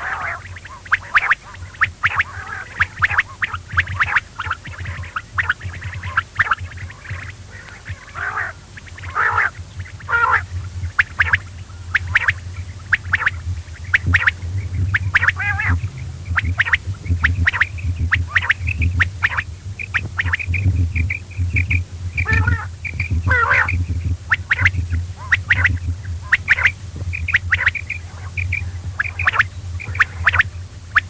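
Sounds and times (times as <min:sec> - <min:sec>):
quail calling: 0:00.0 - 0:31.0
steady low hum: 0:00.0 - 0:31.0.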